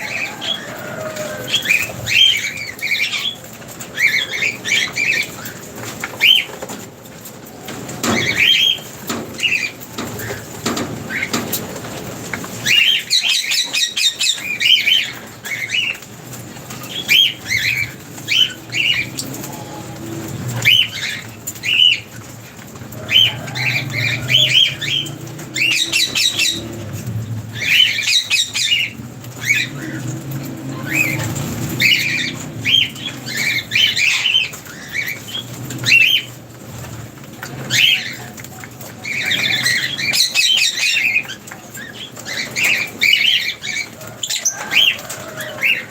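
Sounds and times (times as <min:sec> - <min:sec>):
lovebirds chirping and squawking: 0:00.0 - 0:45.9.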